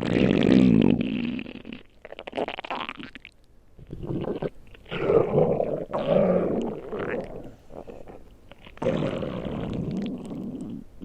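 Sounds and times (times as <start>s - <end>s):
stomach growling: 0.0s - 11.0s.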